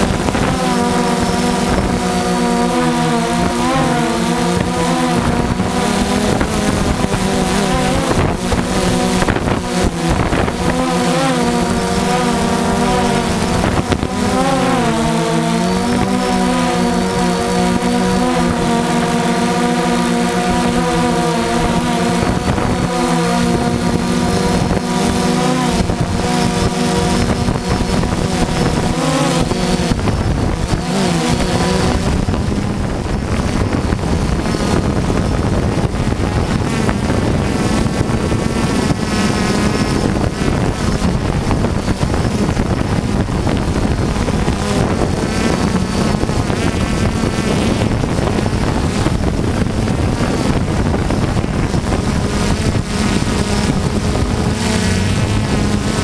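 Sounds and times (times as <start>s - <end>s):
drone motors buzzing: 0.0s - 56.0s
wind on microphone: 0.0s - 56.0s.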